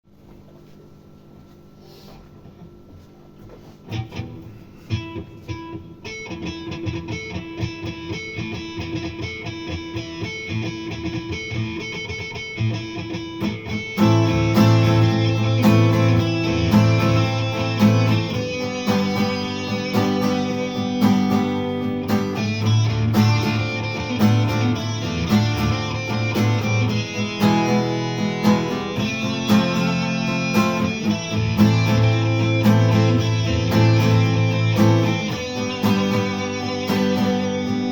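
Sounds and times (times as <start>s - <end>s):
guitar playing: 3.6s - 37.9s.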